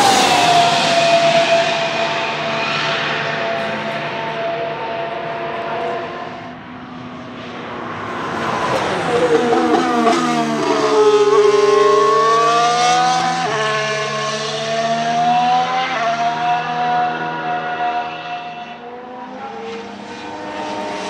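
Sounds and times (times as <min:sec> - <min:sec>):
racing car engine passing: 0:00.0 - 0:21.0.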